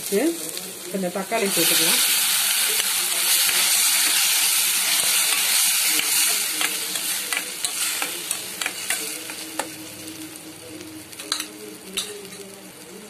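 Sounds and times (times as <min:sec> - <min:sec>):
tomato sizzling in hot oil: 0:00.0 - 0:13.0.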